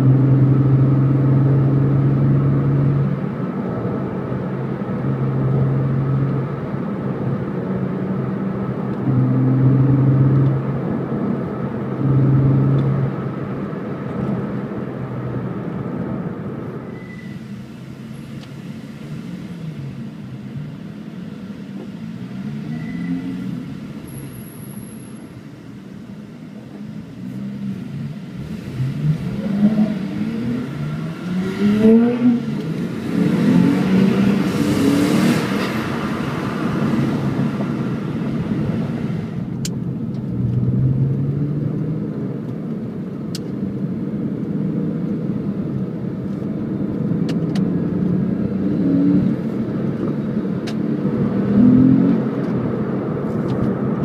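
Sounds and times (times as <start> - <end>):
car engine revving in cabin: 0.0 - 16.8, 17.4 - 54.0.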